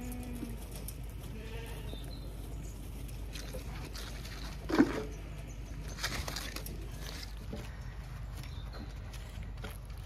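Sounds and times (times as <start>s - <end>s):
sheep feeding at metal trough: 0.0s - 10.0s.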